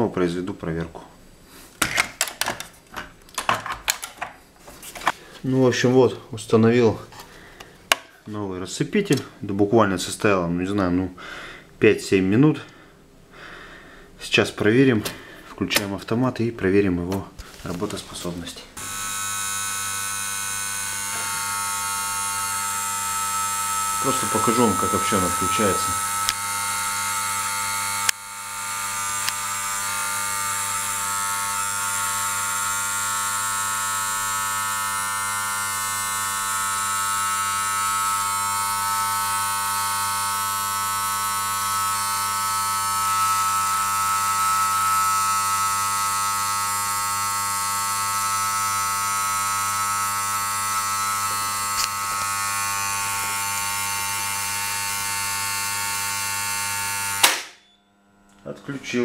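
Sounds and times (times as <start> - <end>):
electrical hum and buzz: 1.2 - 59.0.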